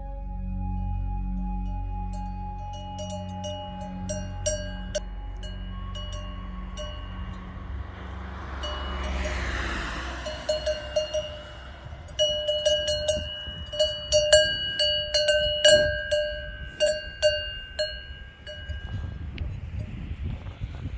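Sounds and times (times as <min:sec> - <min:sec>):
cowbell clanking: 0:02.1 - 0:20.0.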